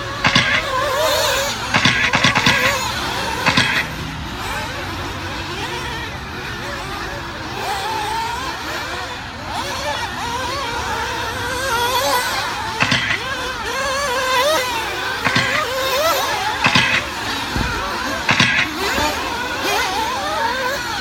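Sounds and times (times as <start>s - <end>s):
rc buggy engines buzzing: 0.0s - 21.0s.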